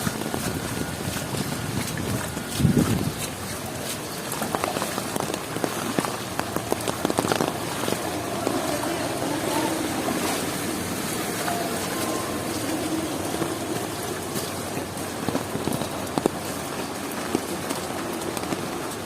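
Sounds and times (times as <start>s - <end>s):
sharp raindrop clicks: 0.0s - 9.6s, 11.0s - 19.0s
heavy rain hissing: 3.6s - 19.0s.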